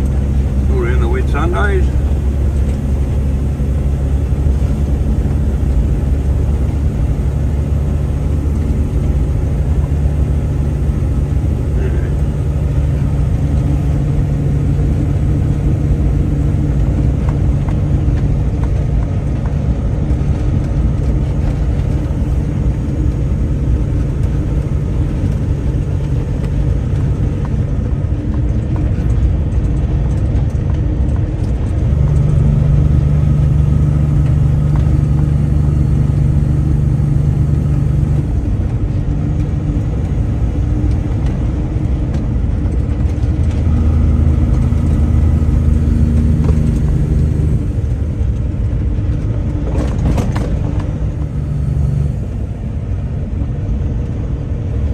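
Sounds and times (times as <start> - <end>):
road and wind noise: 0.0 - 54.9
vehicle engine running: 0.0 - 54.9.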